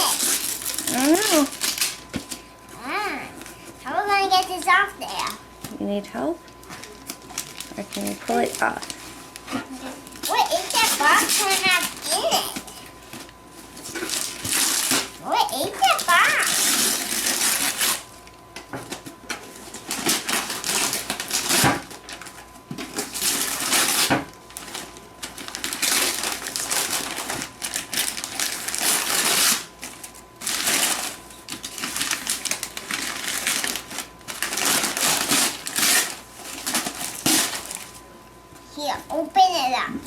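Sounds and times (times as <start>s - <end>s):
cardboard packaging rustling and tearing: 0.0s - 5.4s, 6.5s - 18.1s, 18.9s - 38.0s.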